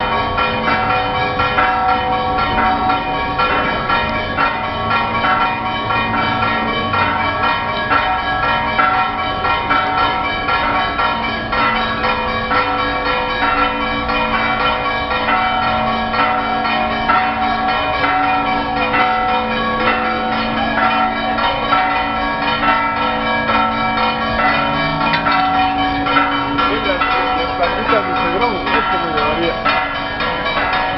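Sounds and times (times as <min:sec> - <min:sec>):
church bells pealing: 0:00.0 - 0:30.9.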